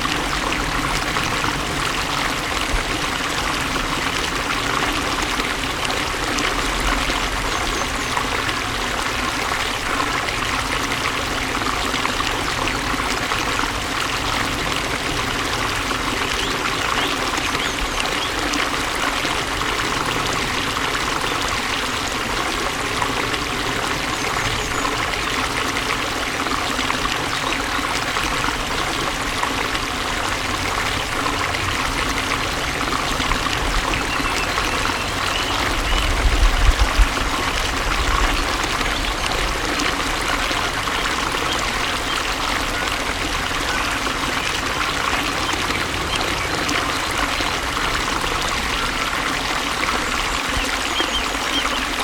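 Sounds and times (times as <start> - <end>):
water flowing and trickling: 0.0 - 52.0.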